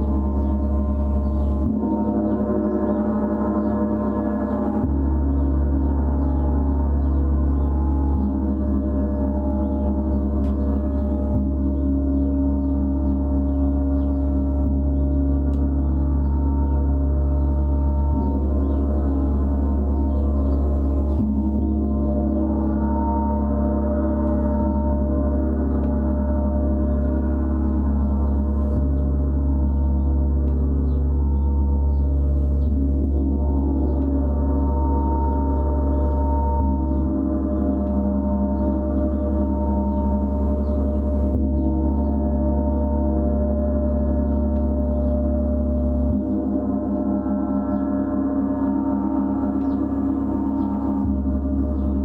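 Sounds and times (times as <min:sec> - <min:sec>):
deep hum: 0:00.0 - 0:52.0
deep low drone: 0:00.0 - 0:52.0.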